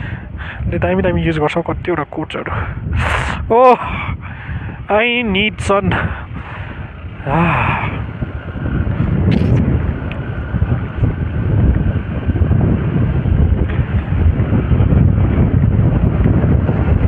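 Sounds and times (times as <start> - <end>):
wind buffeting microphone: 0.0 - 17.0
motorcycle engine running: 2.4 - 17.0.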